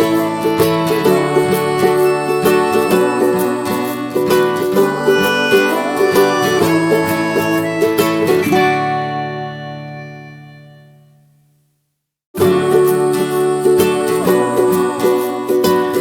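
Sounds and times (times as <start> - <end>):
plucked string instrument music: 0.0 - 11.5, 12.4 - 16.0.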